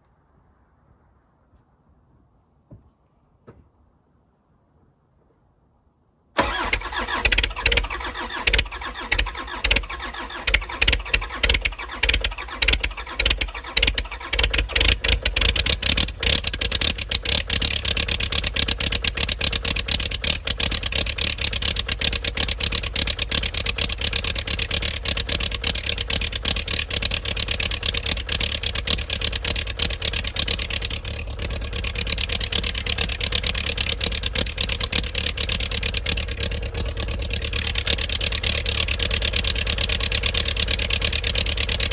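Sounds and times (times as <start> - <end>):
diesel engine starting and running: 6.4 - 41.9.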